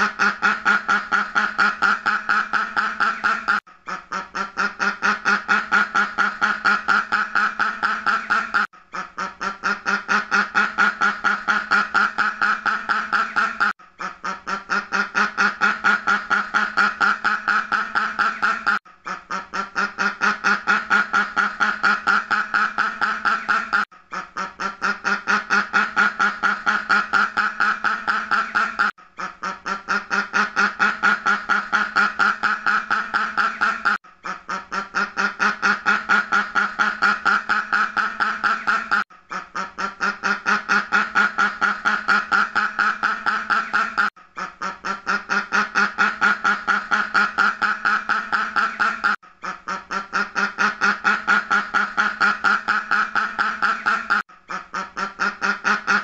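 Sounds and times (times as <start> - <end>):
duck quacking: 0.0 - 56.0.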